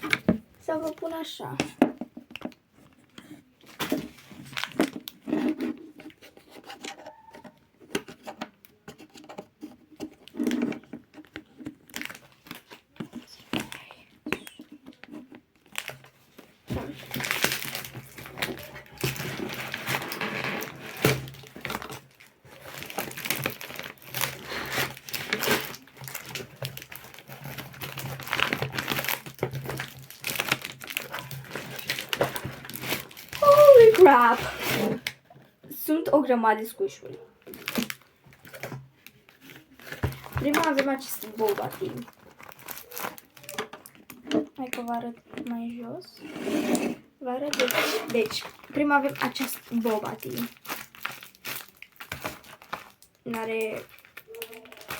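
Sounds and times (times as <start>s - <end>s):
packaging crinkling and tearing: 3.6s - 8.0s, 10.0s - 35.2s, 37.4s - 45.7s, 47.4s - 54.9s.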